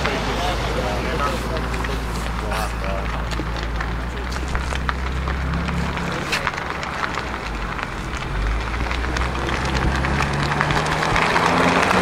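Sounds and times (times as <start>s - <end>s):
exhaust crackling and popping: 0.0s - 12.0s
car engine at low revs: 0.1s - 12.0s.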